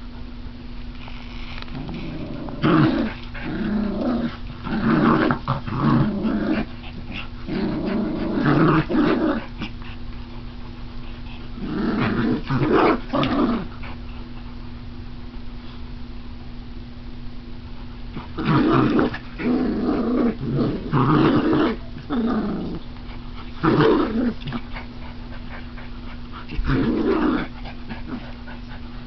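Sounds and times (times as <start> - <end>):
dogs growling in play: 1.0 - 14.6, 18.1 - 29.0.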